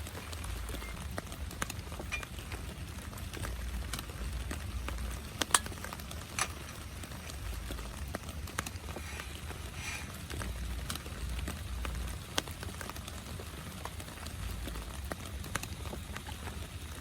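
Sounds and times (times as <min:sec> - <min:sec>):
heavy rain on a tent: 0:00.0 - 0:17.0.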